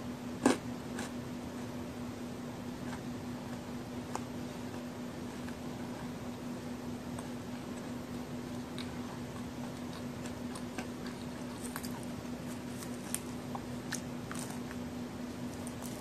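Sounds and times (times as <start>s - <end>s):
steady low hum: 0.0s - 16.0s
cookie crunching: 0.4s - 1.2s, 2.8s - 16.0s.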